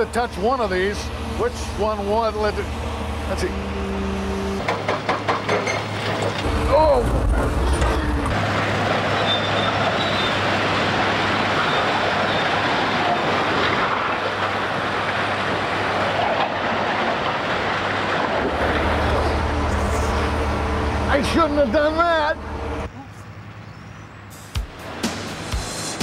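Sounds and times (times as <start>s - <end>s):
heavy construction machinery din: 0.0s - 23.1s.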